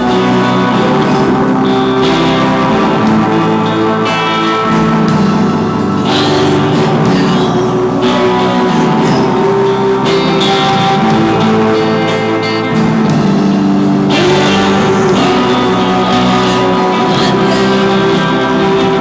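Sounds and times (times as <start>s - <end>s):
rock band playing guitars: 0.0s - 19.0s.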